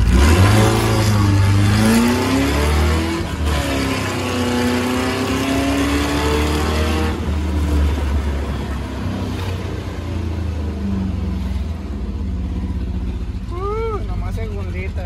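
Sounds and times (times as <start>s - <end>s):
engine revving under acceleration: 0.0s - 12.7s.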